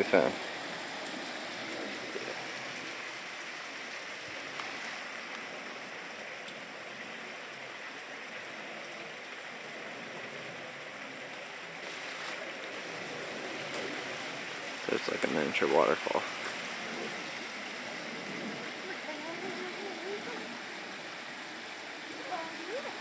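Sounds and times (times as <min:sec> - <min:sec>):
small waterfall splashing: 0:00.0 - 0:23.0.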